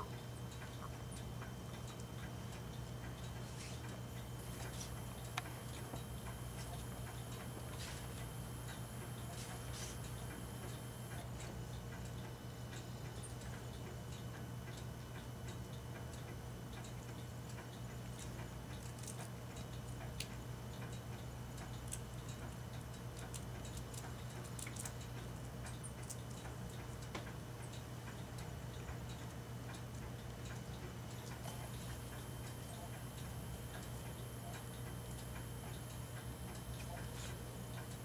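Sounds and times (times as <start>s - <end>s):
squirrel gnawing corn: 0.0s - 12.2s, 16.9s - 38.0s
steady low hum: 0.0s - 38.0s.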